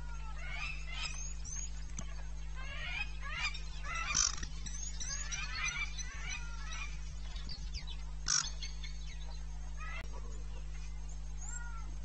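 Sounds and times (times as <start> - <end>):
birds chirping and calling: 0.0 - 12.0
low electrical hum: 0.0 - 12.0.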